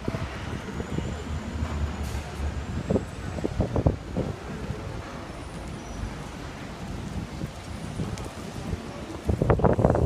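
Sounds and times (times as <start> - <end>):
low rumble of street traffic: 0.0 - 10.0
wind buffeting microphone: 0.0 - 10.0.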